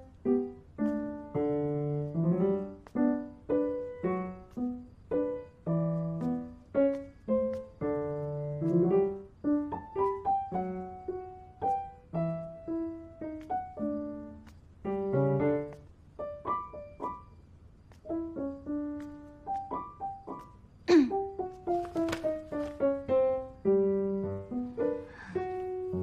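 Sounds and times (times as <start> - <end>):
piano melody: 0.0 - 26.0.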